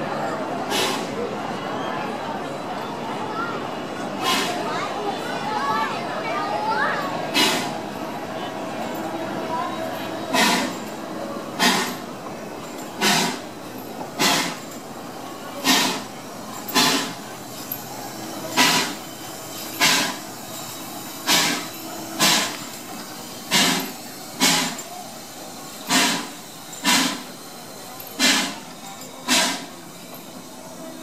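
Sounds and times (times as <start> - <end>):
steam locomotive chuffing: 0.0 - 31.0.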